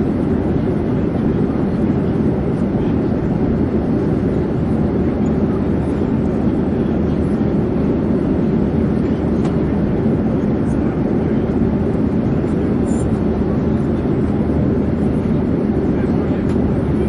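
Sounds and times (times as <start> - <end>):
airplane rumble in flight: 0.0 - 17.0.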